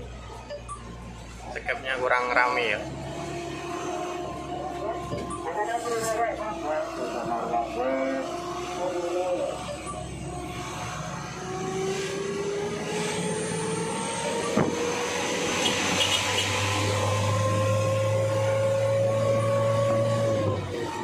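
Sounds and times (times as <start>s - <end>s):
truck engine accelerating: 0.0s - 21.0s.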